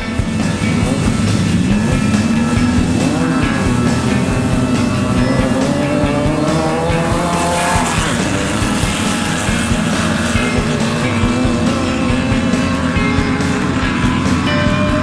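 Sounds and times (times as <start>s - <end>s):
race car engine running hard: 0.0s - 15.0s.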